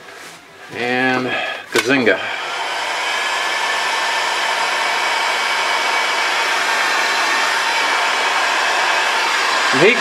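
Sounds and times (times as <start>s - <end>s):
heat gun fan blowing: 1.3s - 10.0s.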